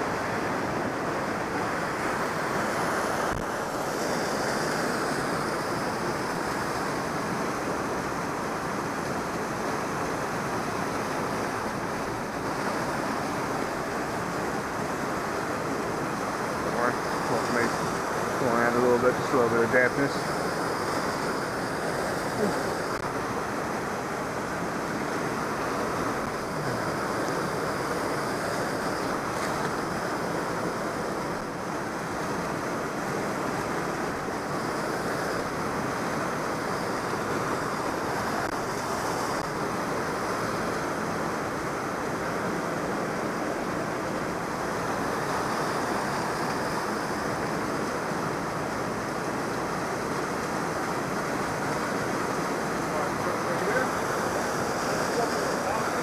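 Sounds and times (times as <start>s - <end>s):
river and waterfall rushing: 0.0s - 56.0s.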